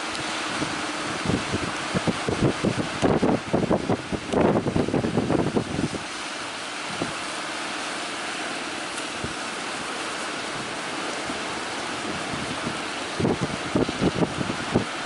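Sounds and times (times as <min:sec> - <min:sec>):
waves breaking in surf: 0:00.0 - 0:15.0.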